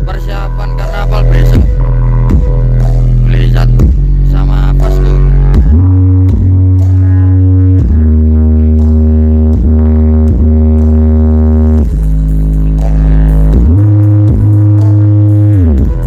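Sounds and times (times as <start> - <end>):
loud electronic music: 0.0 - 16.0.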